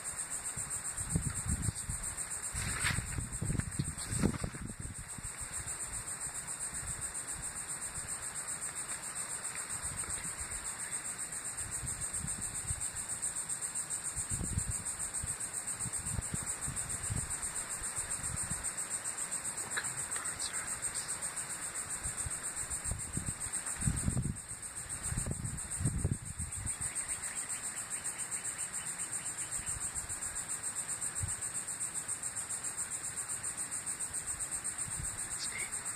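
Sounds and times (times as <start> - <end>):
high-pitched fluttering hiss: 0.0 - 35.9.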